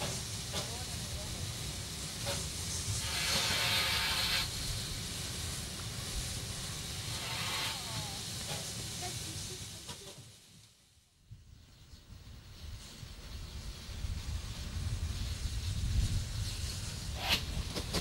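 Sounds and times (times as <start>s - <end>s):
locomotive steam hissing: 0.0s - 10.8s, 12.3s - 18.0s.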